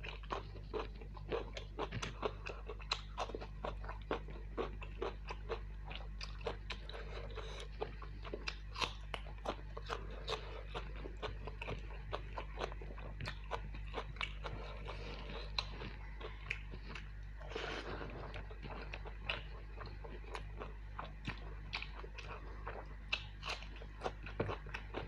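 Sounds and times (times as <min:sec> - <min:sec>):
chewing and mouth smacking: 0:00.0 - 0:25.0
low steady hum: 0:00.0 - 0:25.0.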